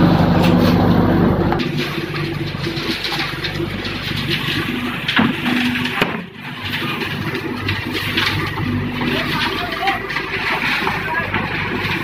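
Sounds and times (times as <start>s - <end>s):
machinery motor hum: 0.0s - 12.0s
machinery rattling: 0.0s - 12.0s.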